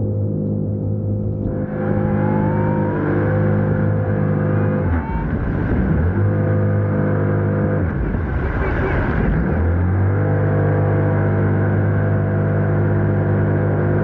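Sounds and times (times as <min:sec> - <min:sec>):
jet kayak engine running: 0:00.8 - 0:14.0.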